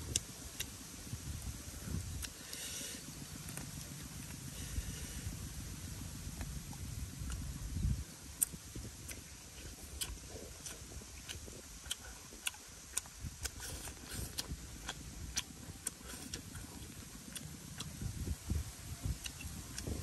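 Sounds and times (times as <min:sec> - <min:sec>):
low rumble: 0:00.0 - 0:20.0
mouth chewing and smacking: 0:00.1 - 0:00.8, 0:01.9 - 0:04.4, 0:06.4 - 0:20.0.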